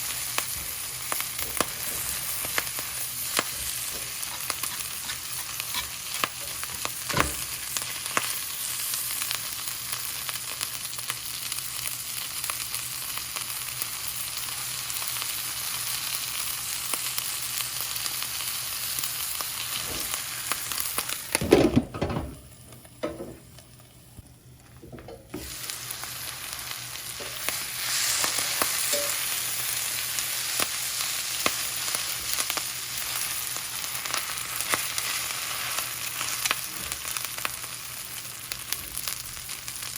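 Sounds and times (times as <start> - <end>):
food sizzling in a pan: 0.0 - 21.6, 24.8 - 39.9.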